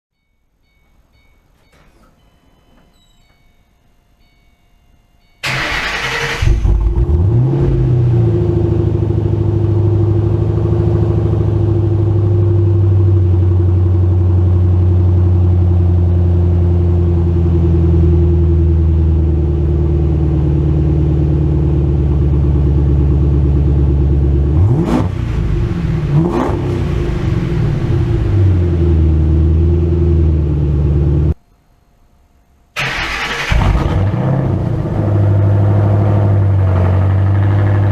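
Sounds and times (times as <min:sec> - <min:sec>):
car engine idling: 0:05.4 - 0:31.4, 0:32.8 - 0:37.9
car engine starting: 0:05.4 - 0:31.4, 0:32.8 - 0:37.9
engine throttle blips: 0:05.4 - 0:31.4, 0:32.8 - 0:37.9.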